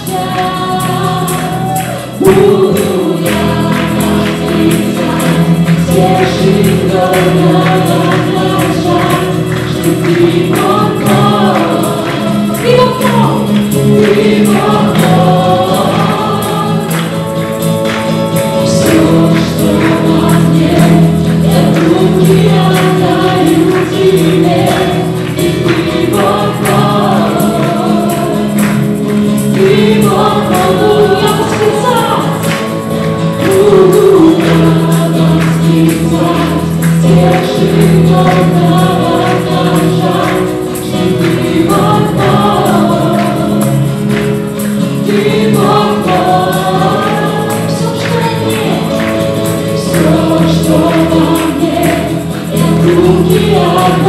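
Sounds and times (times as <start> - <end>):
acoustic guitar: 0.0 - 54.0
bass guitar: 0.0 - 54.0
group singing worship song: 0.0 - 54.0
keyboard: 0.0 - 54.0.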